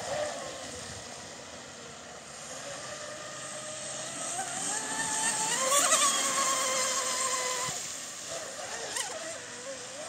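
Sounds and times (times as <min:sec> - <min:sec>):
rc speedboat motor whine: 0:00.0 - 0:10.0.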